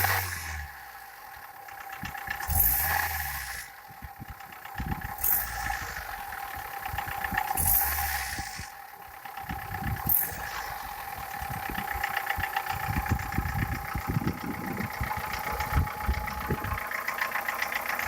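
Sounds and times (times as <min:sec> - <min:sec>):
car engine idling: 0:00.0 - 0:18.0
rapid engine knocking: 0:01.4 - 0:18.0.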